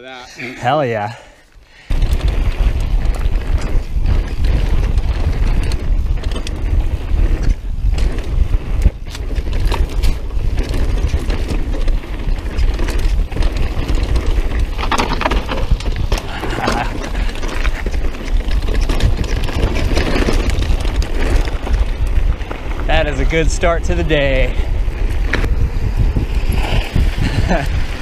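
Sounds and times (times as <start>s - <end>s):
wind buffeting microphone: 1.6s - 28.0s
bike rattles and knocks: 1.9s - 28.0s.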